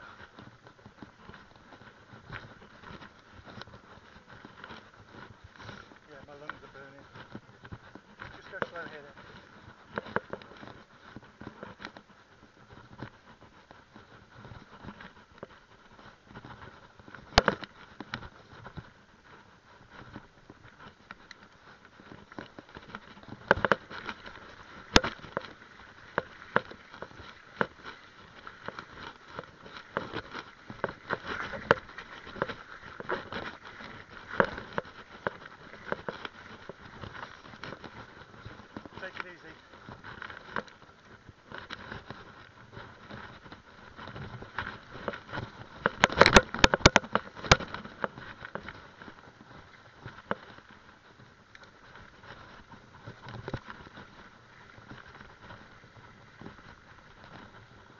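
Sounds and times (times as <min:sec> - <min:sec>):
bike rattling over dirt trail: 0:00.0 - 0:57.9.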